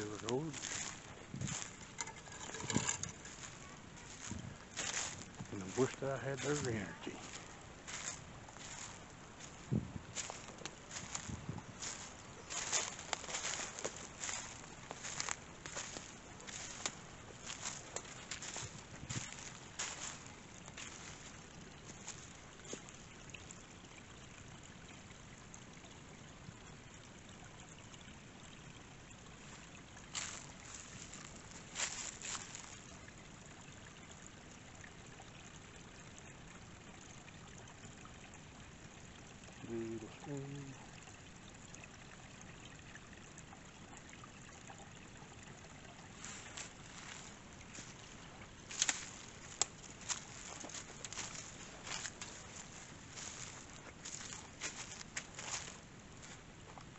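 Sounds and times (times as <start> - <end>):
faint running water: 0.0 - 56.9.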